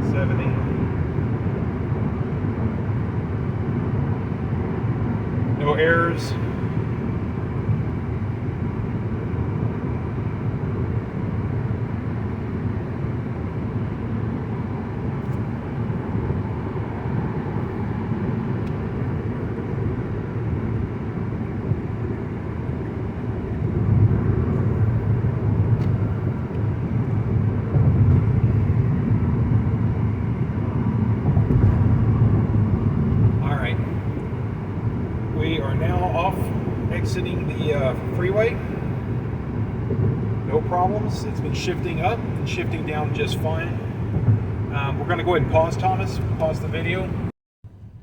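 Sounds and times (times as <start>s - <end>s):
car road and engine noise: 0.0s - 48.0s.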